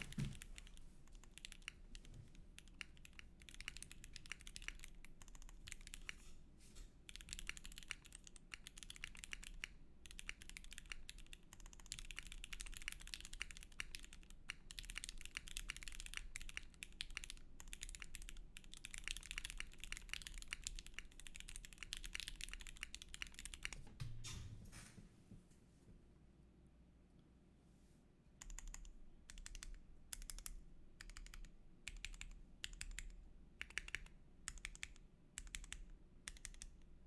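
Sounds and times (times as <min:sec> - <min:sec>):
mechanical keyboard typing: 0:00.0 - 0:06.2, 0:07.1 - 0:23.8, 0:28.4 - 0:36.8.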